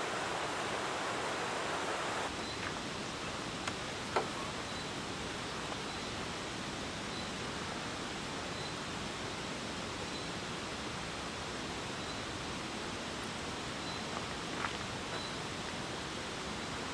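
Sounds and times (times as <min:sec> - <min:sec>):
rushing outdoor noise: 0:00.0 - 0:16.9.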